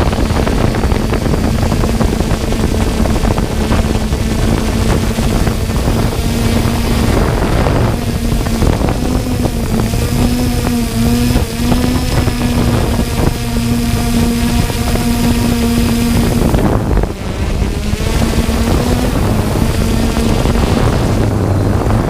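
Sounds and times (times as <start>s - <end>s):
drone propellers humming: 0.0s - 22.0s
wind on microphone: 0.0s - 22.0s.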